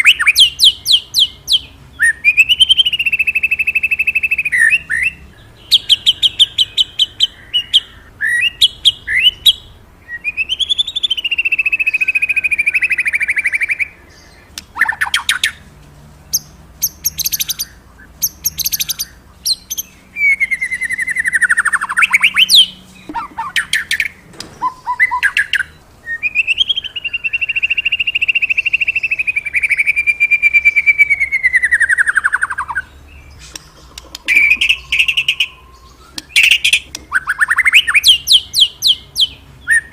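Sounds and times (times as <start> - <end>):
songbird whistling and chattering: 0.0 - 15.7, 16.3 - 39.9.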